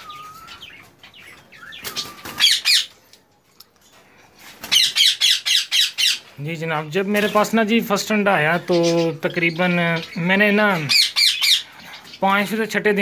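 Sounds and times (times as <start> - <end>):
parakeets squawking: 0.0 - 3.0, 4.6 - 13.0.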